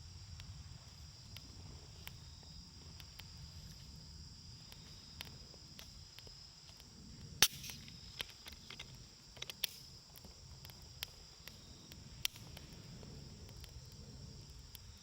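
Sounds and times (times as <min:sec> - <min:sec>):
campfire crackling: 0:00.0 - 0:15.0
burning wood popping: 0:00.1 - 0:15.0.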